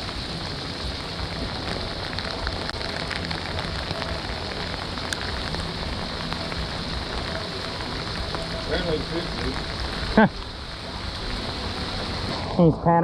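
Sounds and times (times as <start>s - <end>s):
heavy rain falling: 0.0s - 12.8s.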